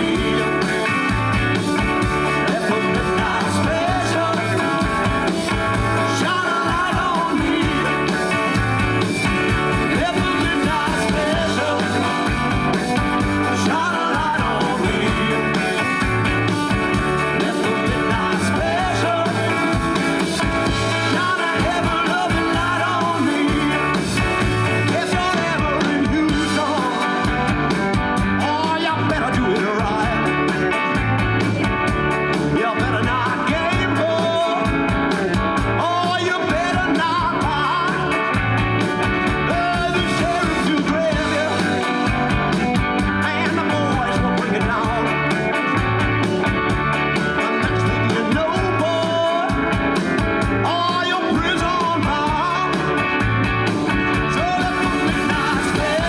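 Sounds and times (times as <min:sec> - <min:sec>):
person singing: 0:00.0 - 0:16.0, 0:17.2 - 0:27.4, 0:28.4 - 0:30.6, 0:32.5 - 0:38.3, 0:39.4 - 0:42.3, 0:43.0 - 0:45.6, 0:47.3 - 0:49.8, 0:50.6 - 0:53.0, 0:54.2 - 0:56.0
live rock band playing: 0:00.0 - 0:56.0.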